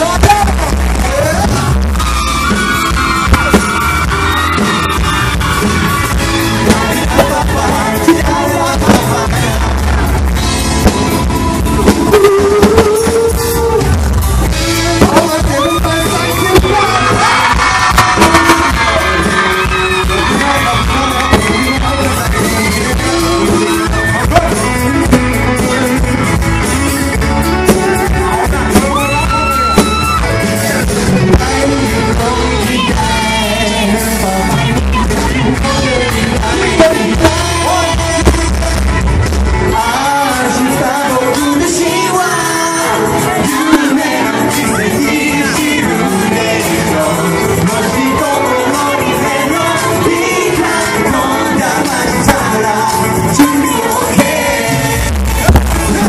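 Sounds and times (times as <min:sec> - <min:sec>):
guitar: 0:00.0 - 0:56.0
steady beat: 0:00.0 - 0:56.0
men singing: 0:04.4 - 0:39.0, 0:39.6 - 0:56.0.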